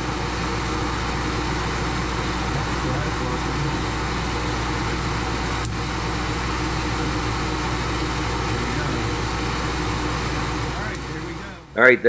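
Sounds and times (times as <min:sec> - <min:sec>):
milling machine motor hum: 0:00.0 - 0:11.9.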